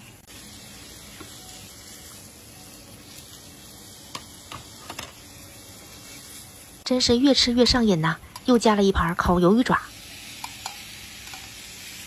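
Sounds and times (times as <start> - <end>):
beef sizzling on grill pan: 0.0 - 12.0.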